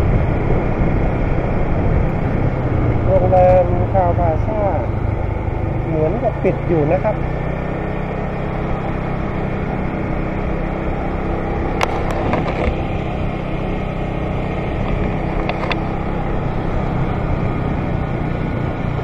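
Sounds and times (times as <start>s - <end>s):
motor scooter engine running: 0.0s - 19.0s
road and wind noise: 0.0s - 19.0s.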